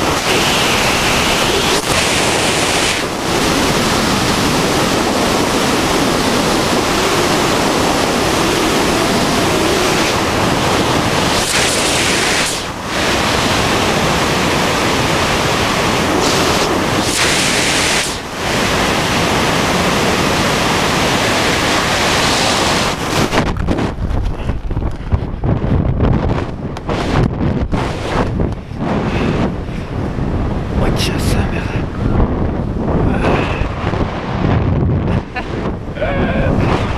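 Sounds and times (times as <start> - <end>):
wind buffeting: 0.0 - 36.9
wind roaring over microphone: 0.0 - 36.9.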